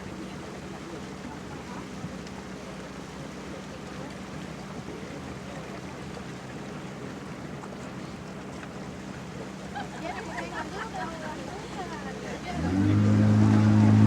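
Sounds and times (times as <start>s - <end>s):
motorboat engine hum: 0.0s - 14.0s
water rushing: 0.0s - 14.0s
wind: 0.0s - 14.0s.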